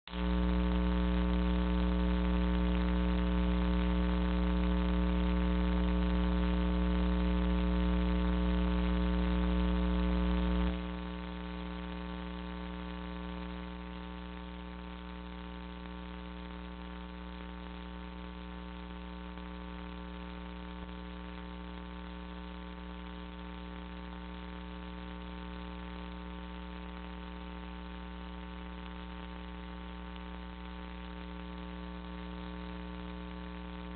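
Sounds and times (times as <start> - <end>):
electrical mains hum: 0.1 - 33.9.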